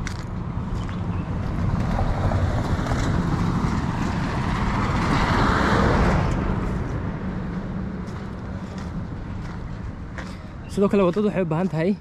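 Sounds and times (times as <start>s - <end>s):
vehicle passing by: 0.0s - 11.8s
steady low rumble: 0.0s - 12.0s.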